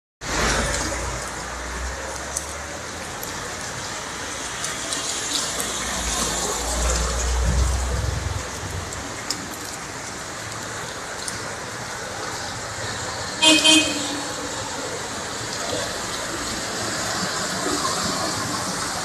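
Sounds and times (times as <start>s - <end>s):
heavy rain pouring: 0.2s - 19.0s.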